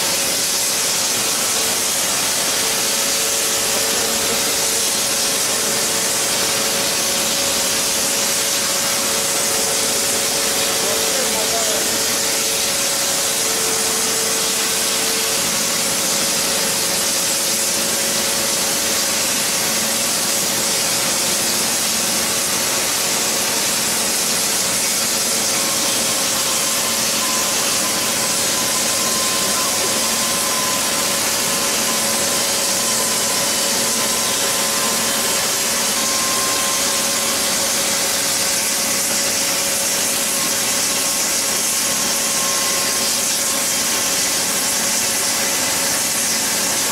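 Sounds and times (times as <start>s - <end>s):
gas burners hissing: 0.1s - 41.4s.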